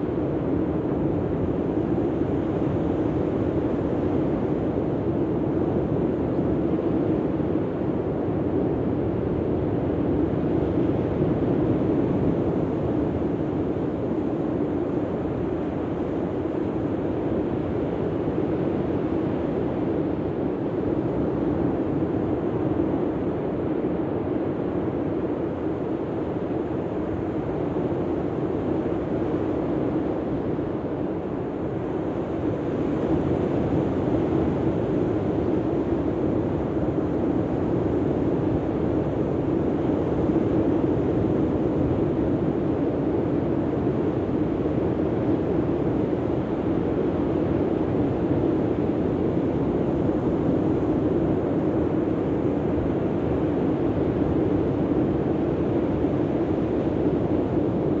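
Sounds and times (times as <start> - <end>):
wind: 0.0 - 58.0.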